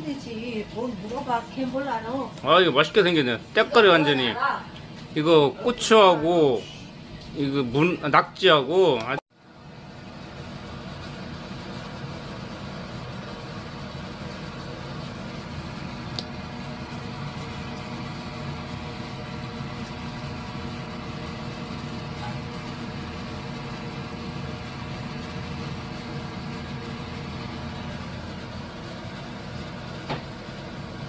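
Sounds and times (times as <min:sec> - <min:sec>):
mechanical hum with hiss: 0:00.0 - 0:31.0.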